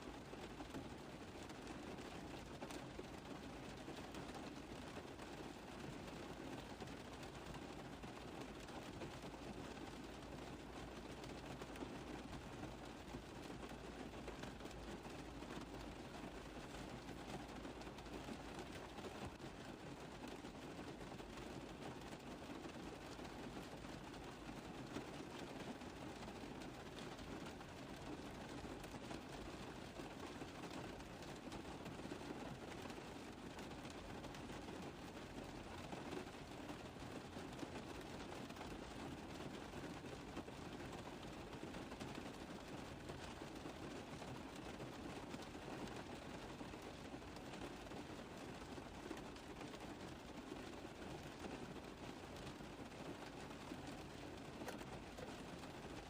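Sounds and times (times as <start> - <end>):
rain on a car roof: 0.0 - 56.0.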